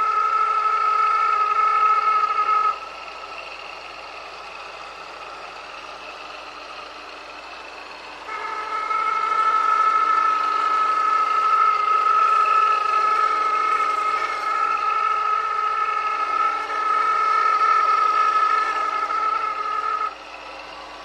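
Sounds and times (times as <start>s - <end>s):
car engine whining: 0.0s - 21.0s.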